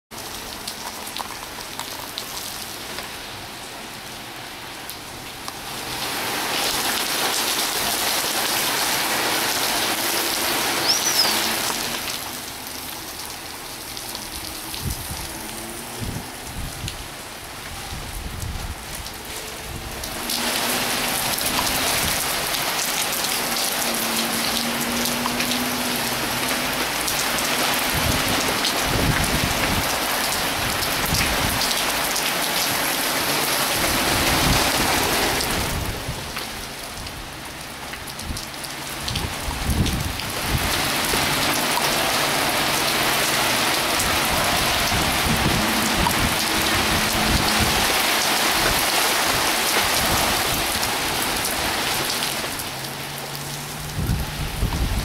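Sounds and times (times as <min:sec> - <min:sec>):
heavy rain pouring: 0:00.1 - 0:55.0.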